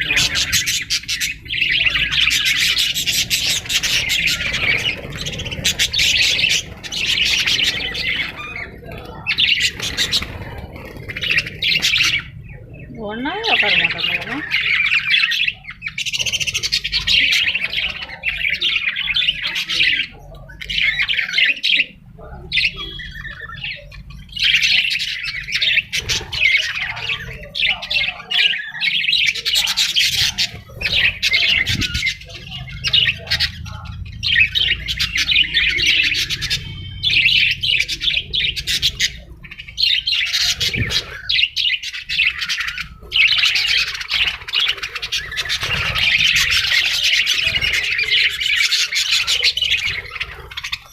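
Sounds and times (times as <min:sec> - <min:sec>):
parrot squawking: 0:00.0 - 0:22.0, 0:22.6 - 0:50.9.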